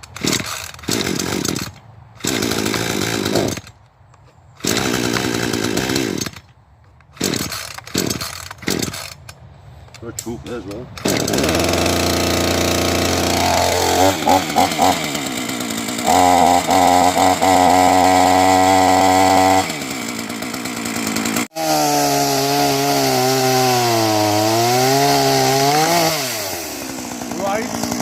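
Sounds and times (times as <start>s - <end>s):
chainsaw engine revving: 0.0s - 3.7s, 4.6s - 6.5s, 7.1s - 9.2s, 10.9s - 28.0s.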